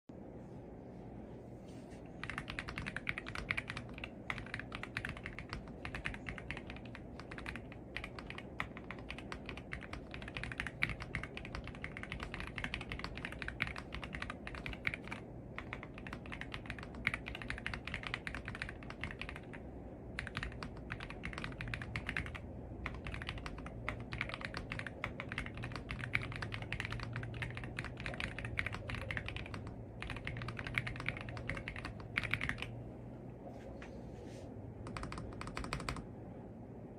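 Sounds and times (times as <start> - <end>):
mechanical keyboard typing: 2.2 - 32.8, 34.8 - 36.1.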